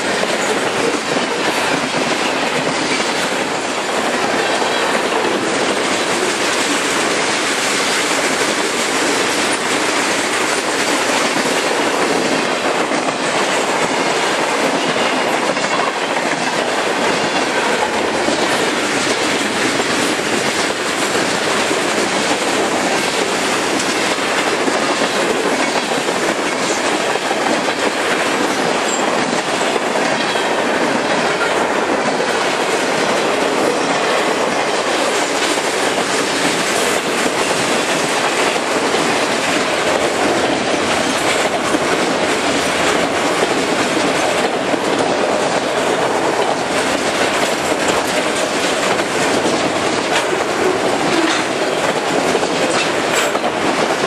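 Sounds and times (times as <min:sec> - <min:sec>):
freight train rolling past: 0:00.0 - 0:54.0
wheels clicking over rail joints: 0:00.0 - 0:54.0.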